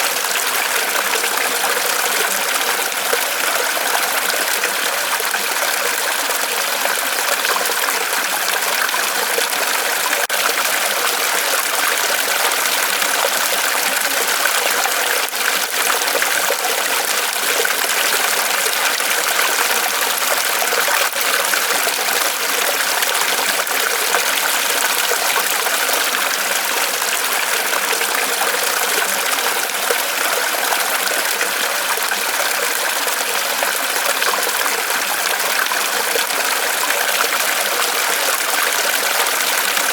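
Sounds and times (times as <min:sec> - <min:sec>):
water splashing from small waterfall: 0:00.0 - 0:39.9.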